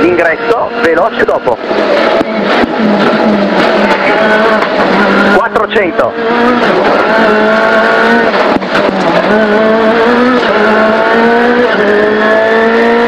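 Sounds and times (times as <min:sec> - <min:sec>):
gear upshift: 0:00.0 - 0:13.0
rally car engine at full throttle: 0:00.0 - 0:13.0.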